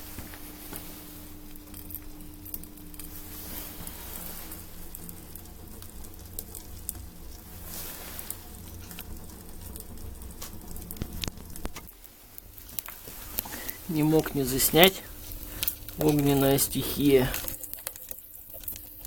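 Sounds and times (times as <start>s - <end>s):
firewood crackling and popping: 0.0s - 19.0s
low stove draft noise: 0.0s - 19.0s.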